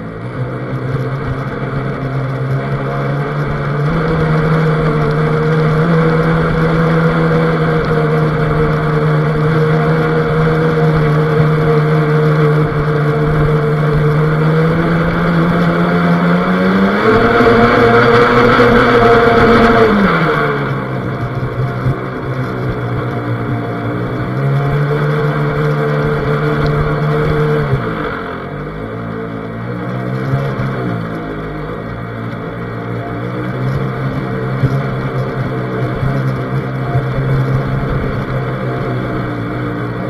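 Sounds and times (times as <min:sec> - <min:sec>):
model boat motor whining: 0:00.0 - 0:40.0
water rushing against hull: 0:00.0 - 0:40.0.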